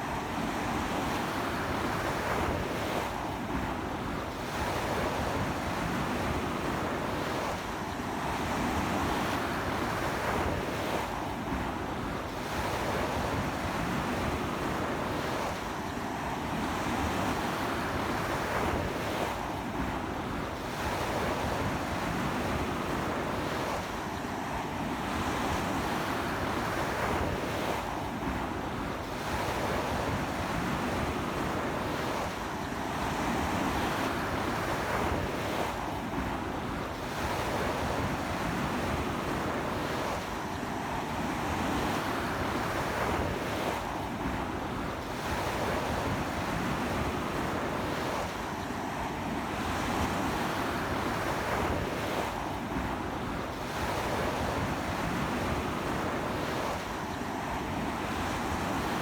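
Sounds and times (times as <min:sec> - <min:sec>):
sea surf breaking on beach: 0:08.9 - 0:59.0.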